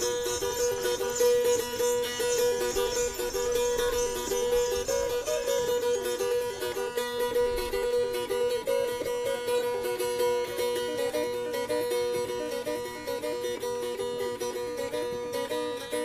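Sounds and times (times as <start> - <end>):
plucked string instrument melody: 0.0 - 16.0.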